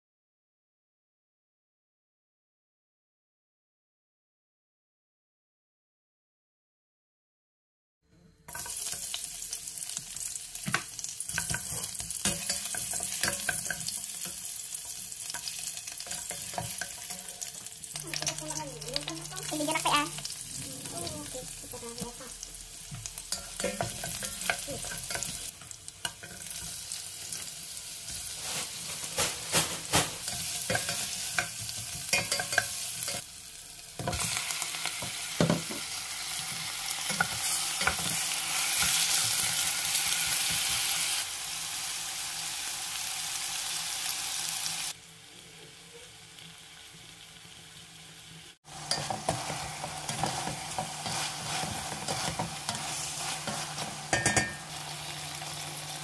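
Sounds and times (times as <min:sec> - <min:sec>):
food sizzling in oil: 0:08.5 - 0:56.0.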